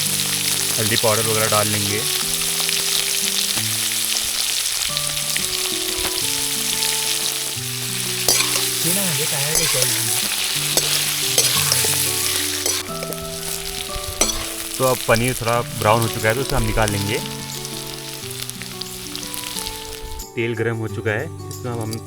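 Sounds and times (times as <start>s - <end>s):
food sizzling in hot oil: 0.0s - 20.3s.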